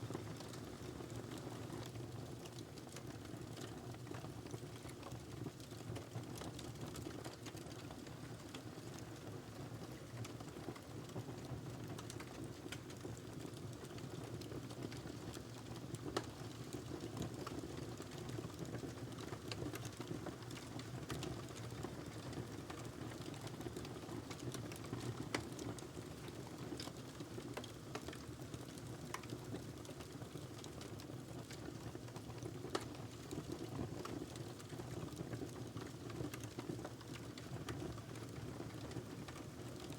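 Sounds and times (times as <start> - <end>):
fire crackling and popping: 0.4 - 39.9.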